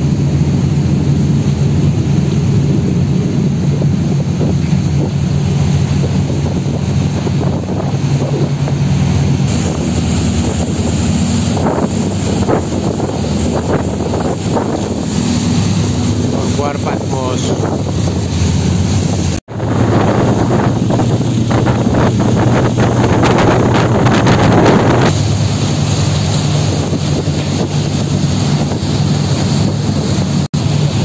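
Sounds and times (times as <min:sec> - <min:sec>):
ferry engines droning: 0:00.0 - 0:31.0
rush of boat wake: 0:00.0 - 0:31.0
wind buffeting microphone: 0:00.0 - 0:31.0.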